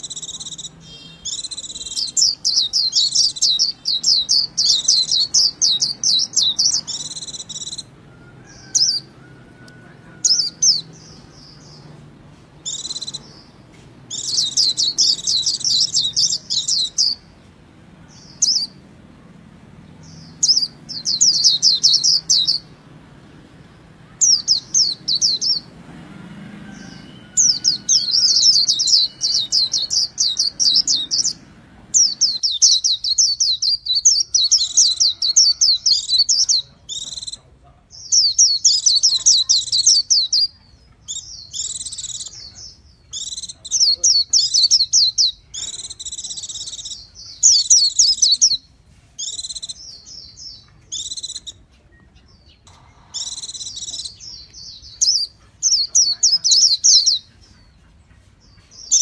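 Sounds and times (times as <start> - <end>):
bird twittering song: 0.0 - 12.0, 12.6 - 17.4, 18.0 - 18.8, 19.8 - 22.7, 23.8 - 25.8, 26.8 - 59.0.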